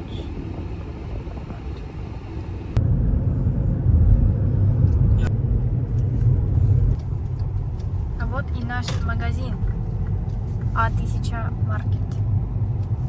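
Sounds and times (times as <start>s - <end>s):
car interior engine and road noise: 0.0s - 13.0s.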